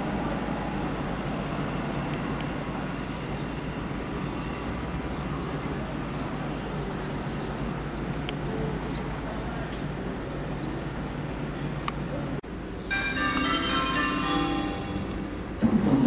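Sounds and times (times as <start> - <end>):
distant electric train running: 0.0 - 16.0.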